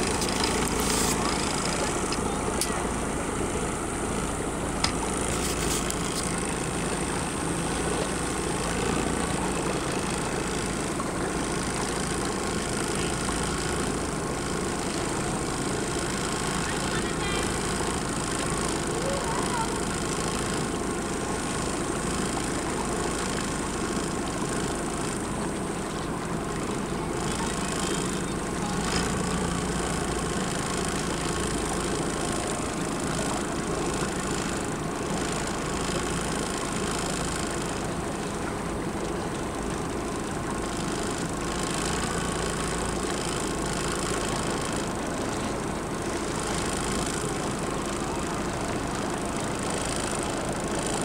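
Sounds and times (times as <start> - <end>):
speedboat motor running: 0.0 - 51.0.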